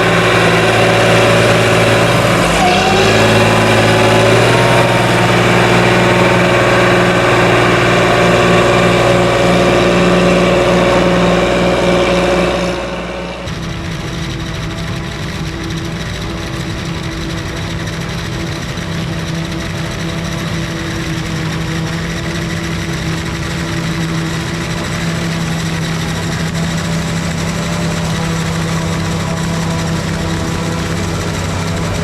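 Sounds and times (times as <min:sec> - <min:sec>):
diesel machinery engine hum: 0:00.0 - 0:32.0.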